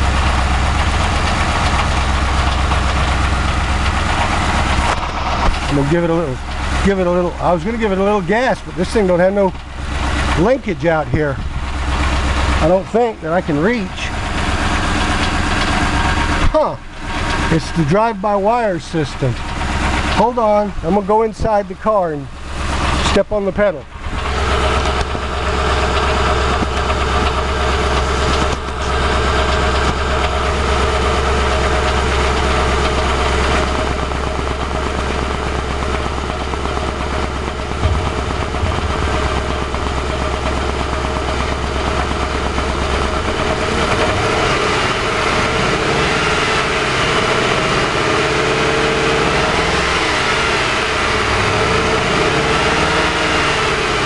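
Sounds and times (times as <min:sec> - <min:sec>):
car engine idling roughly: 0:00.0 - 0:54.0.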